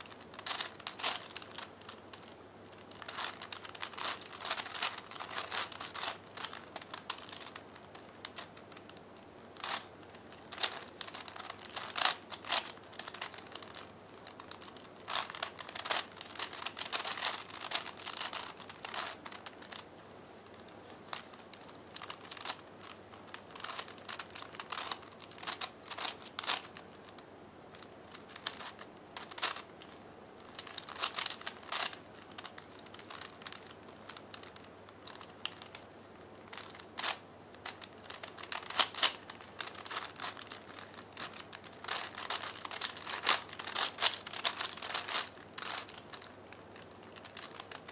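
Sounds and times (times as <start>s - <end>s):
puzzle cube layers clicking: 0.4s - 9.0s, 9.6s - 19.8s, 21.1s - 26.8s, 27.7s - 35.9s, 36.5s - 47.9s.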